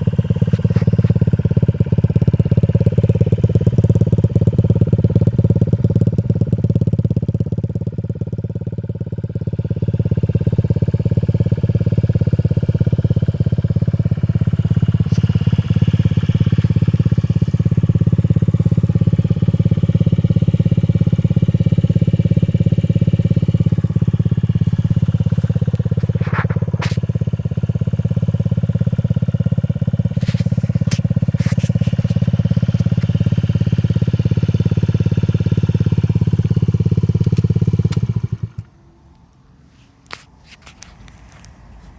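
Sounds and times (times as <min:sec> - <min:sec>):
scooter engine running: 0:00.0 - 0:39.4.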